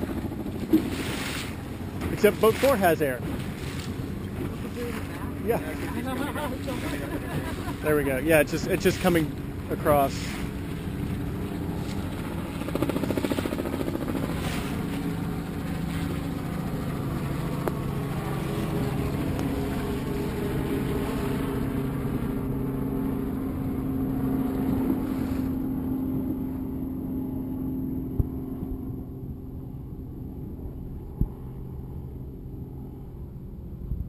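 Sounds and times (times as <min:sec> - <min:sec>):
motorboat engine running: 0:00.0 - 0:34.0.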